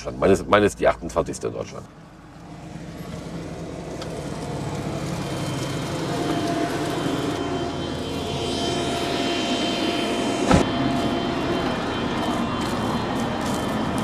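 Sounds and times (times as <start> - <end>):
thin whine: 0.0 - 14.0
tractor engine hum: 0.0 - 14.0.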